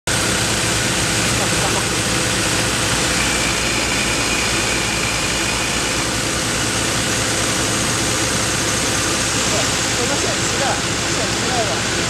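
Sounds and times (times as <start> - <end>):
drill rig drilling into rock: 0.4 - 10.3.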